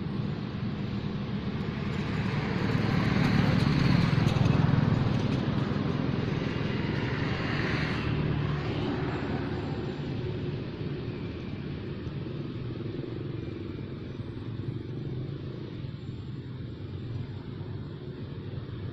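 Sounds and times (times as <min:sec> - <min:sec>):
vehicle engine rumbling: 0:00.0 - 0:18.9.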